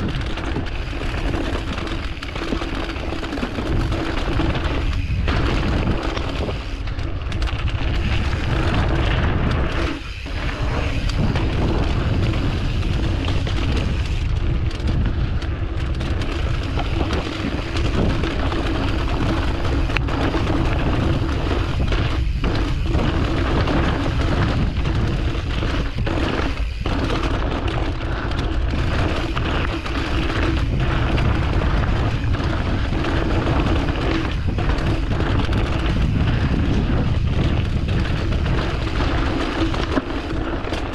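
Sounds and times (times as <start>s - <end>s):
mountain bike rumbling and rattling: 0.0s - 40.9s
wind buffeting microphone: 0.0s - 40.9s.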